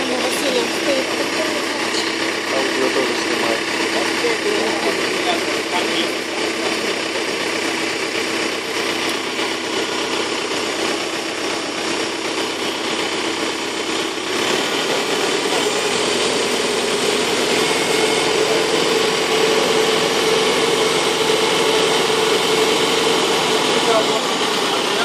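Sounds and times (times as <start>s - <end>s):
tractor and harvester machinery running: 0.0s - 25.0s.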